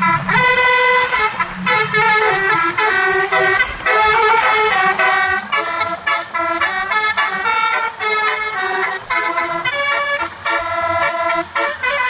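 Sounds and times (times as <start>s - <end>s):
multi-tone musical horn tune: 0.0s - 12.0s.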